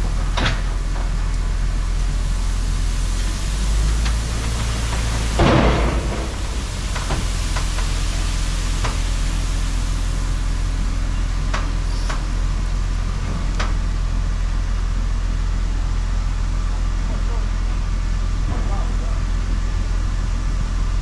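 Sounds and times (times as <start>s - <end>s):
farm vehicle engine running: 0.0s - 21.0s.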